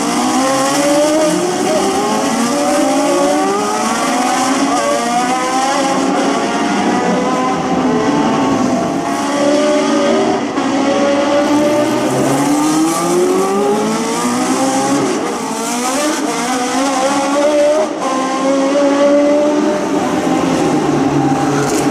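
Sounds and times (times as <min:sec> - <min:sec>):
race car engine accelerating: 0:00.0 - 0:21.9
race car engines: 0:00.0 - 0:21.9.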